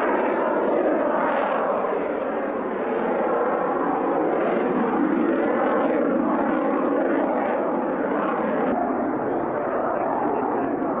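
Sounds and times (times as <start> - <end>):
jet aircraft flying: 0.0 - 11.0.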